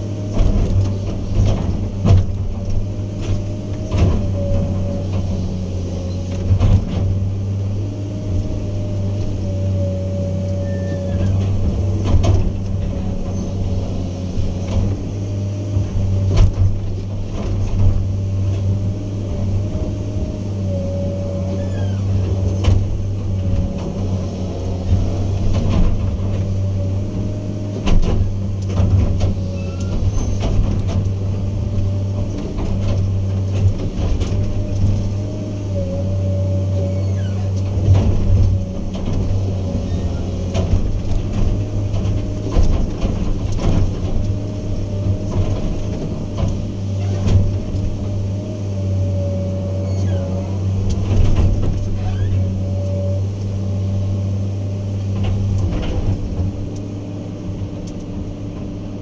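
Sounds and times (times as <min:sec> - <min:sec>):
diesel engine running: 0:00.0 - 0:59.0
low hum: 0:00.0 - 0:59.0.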